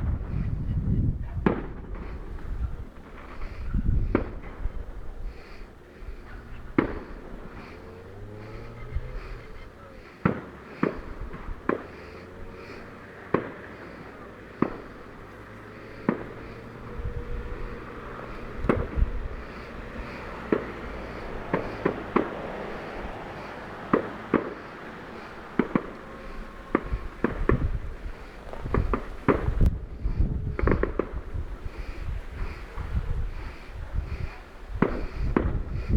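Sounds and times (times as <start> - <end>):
fireworks bangs: 0.0 - 35.9
low rumble: 0.0 - 35.9.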